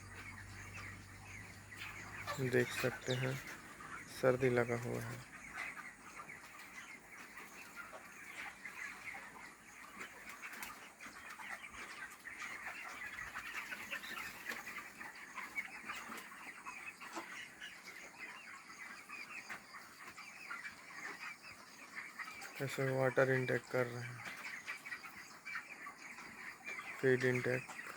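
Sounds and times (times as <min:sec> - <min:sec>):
chicks peeping and chirping: 0:00.0 - 0:27.9.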